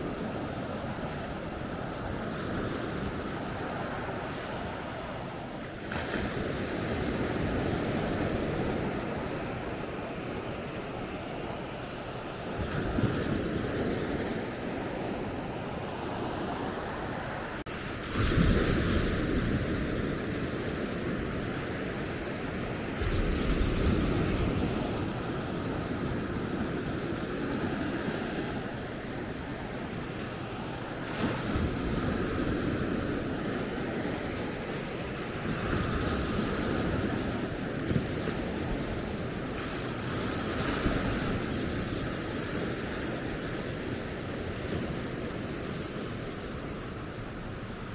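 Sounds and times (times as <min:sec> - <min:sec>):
sea waves breaking on beach: 0:00.0 - 0:47.9.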